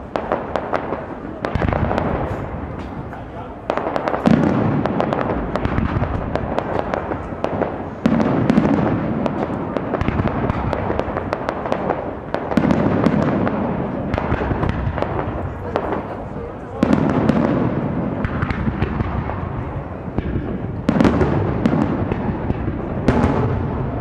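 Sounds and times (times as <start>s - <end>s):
fireworks crackling: 0.0s - 24.0s
fireworks volley: 0.0s - 24.0s.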